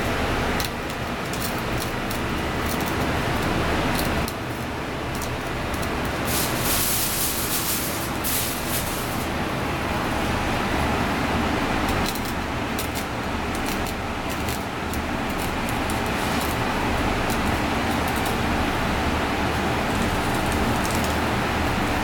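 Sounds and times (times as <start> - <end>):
background rumble and hiss: 0.0 - 22.0.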